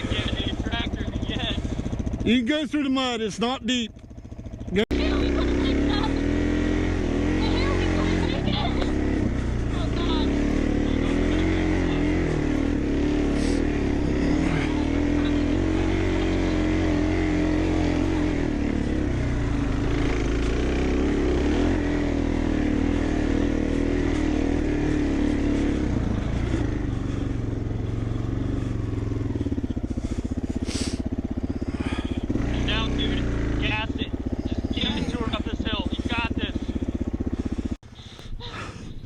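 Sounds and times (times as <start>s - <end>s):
dirt bike engine running: 0.0s - 38.8s.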